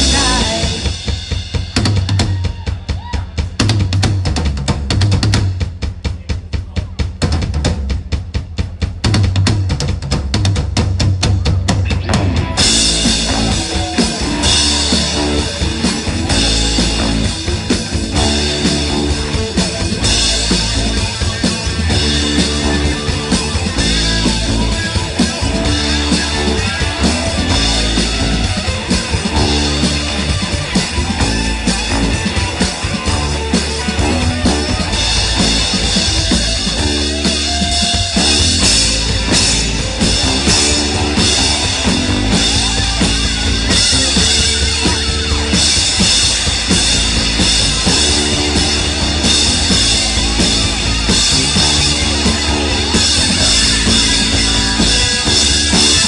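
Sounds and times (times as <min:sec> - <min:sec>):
rapid drum fill: 0:00.0 - 0:56.0
rock band playing: 0:00.0 - 0:56.0.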